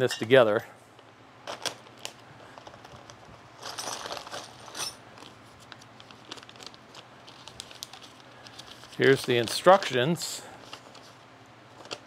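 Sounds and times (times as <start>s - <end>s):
plastic and paper crinkling: 1.4s - 12.0s.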